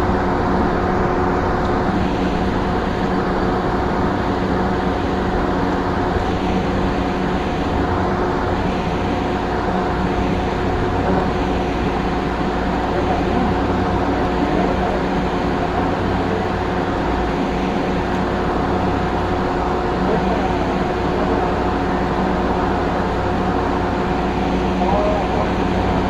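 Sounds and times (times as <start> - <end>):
constant tonal hum: 0.0 - 26.0.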